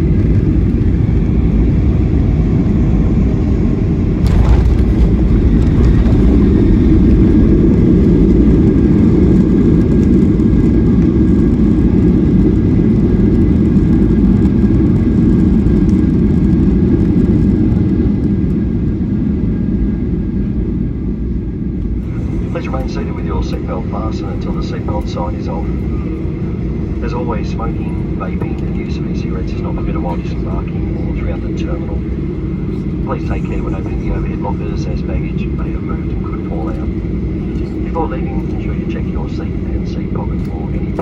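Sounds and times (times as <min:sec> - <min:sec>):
aircraft cabin rumble: 0:00.0 - 0:41.0.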